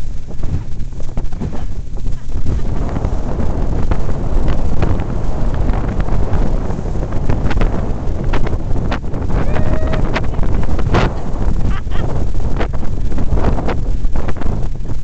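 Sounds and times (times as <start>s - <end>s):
hull slapping on waves: 0.0s - 9.4s, 10.0s - 15.0s
boat rushing over water: 0.0s - 15.0s
wind buffeting microphone: 0.0s - 15.0s.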